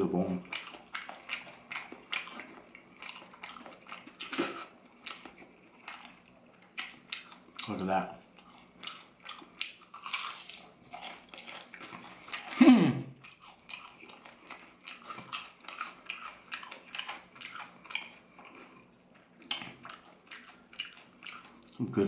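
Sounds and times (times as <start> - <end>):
crunching fried chicken: 0.2 - 12.6, 13.2 - 22.0.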